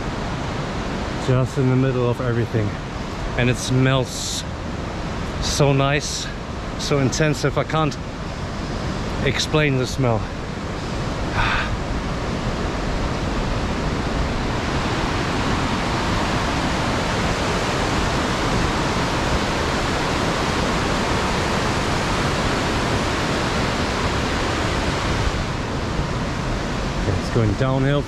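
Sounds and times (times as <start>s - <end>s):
waterfall rushing: 2.6s - 27.9s.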